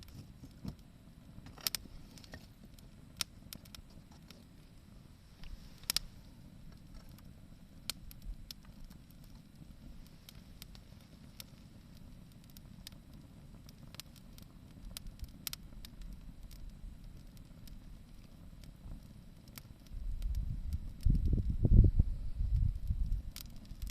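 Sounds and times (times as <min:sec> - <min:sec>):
low steady rumble: 0:00.0 - 0:23.9
wood fire crackling and popping: 0:00.0 - 0:23.9.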